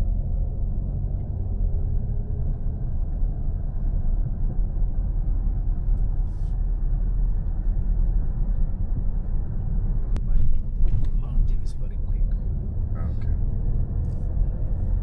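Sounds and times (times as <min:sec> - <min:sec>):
car engine rumble: 0:00.0 - 0:15.0
tyres on road: 0:00.0 - 0:15.0.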